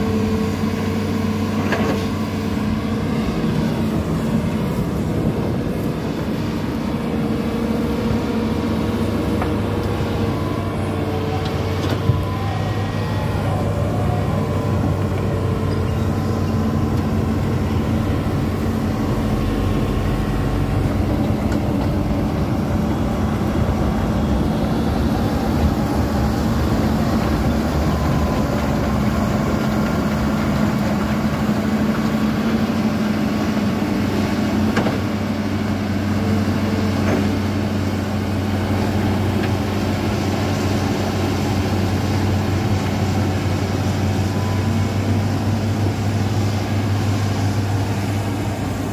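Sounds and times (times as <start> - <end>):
excavator diesel engine humming: 0.0 - 48.9.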